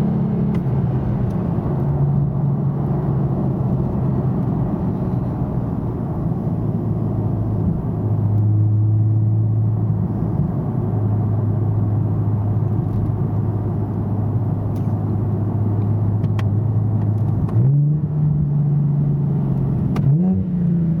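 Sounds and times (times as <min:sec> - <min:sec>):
car engine droning in cabin: 0:00.0 - 0:21.0.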